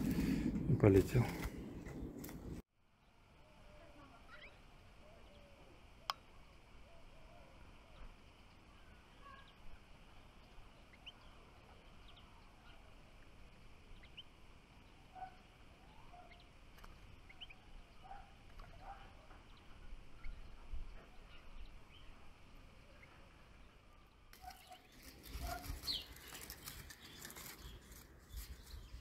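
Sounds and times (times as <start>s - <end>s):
songbirds chirping: 0.0s - 29.0s
lower bird calls: 3.9s - 23.2s, 24.4s - 29.0s.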